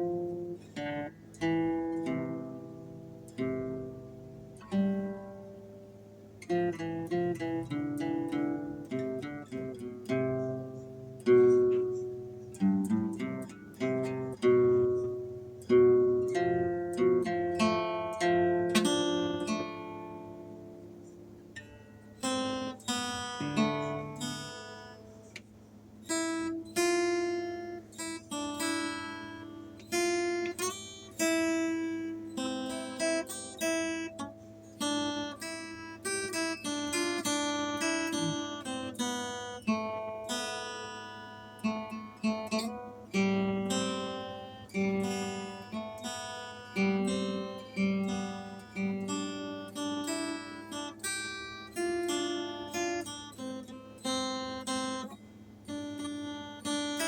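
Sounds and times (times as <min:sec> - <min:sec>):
acoustic guitar melody: 0:00.0 - 0:57.0.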